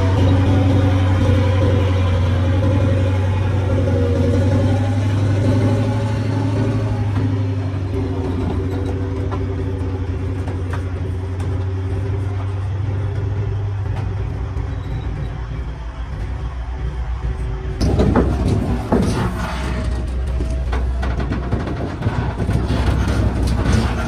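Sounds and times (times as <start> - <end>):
heavy vehicle engine humming: 0.0 - 24.0.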